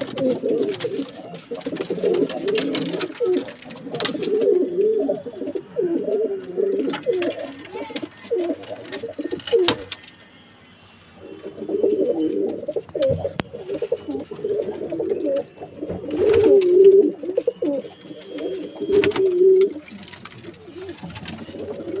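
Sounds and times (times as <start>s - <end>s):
pigeons cooing: 0.0s - 10.1s, 11.2s - 22.0s.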